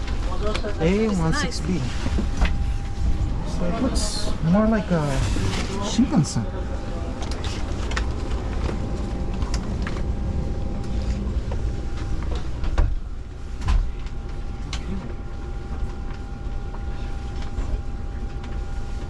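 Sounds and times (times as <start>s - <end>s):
train cabin rumble: 0.0s - 15.4s
thin steady whine: 0.1s - 19.0s.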